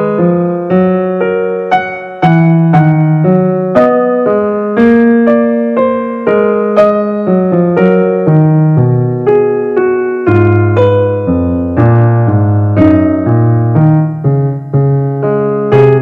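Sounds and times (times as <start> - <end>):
keyboard slow melody: 0.0 - 16.0.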